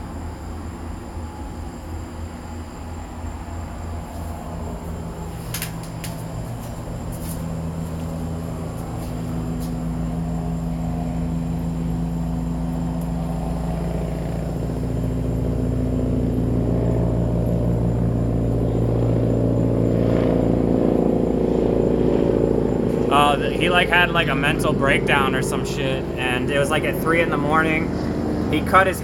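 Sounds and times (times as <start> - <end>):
helicopter drone: 0.0 - 29.0.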